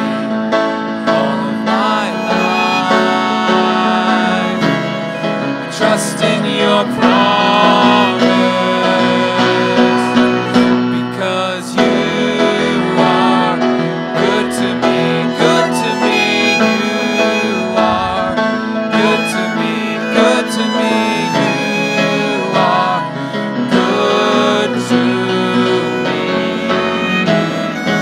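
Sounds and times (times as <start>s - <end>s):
grand piano: 0.0s - 28.0s
violin melody: 0.0s - 28.0s
voices singing: 0.0s - 28.0s.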